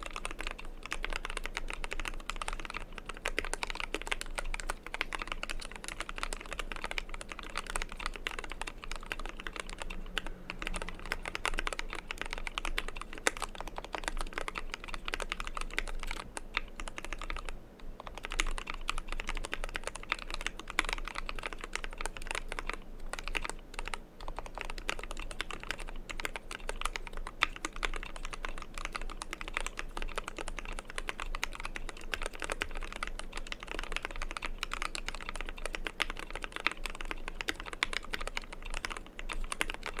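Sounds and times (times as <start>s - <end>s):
typing on mechanical keyboard: 0.0s - 40.0s.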